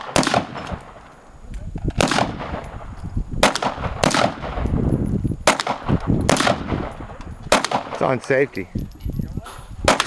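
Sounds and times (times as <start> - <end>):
gunshots with rolling echo: 0.0 - 1.4, 2.0 - 8.6.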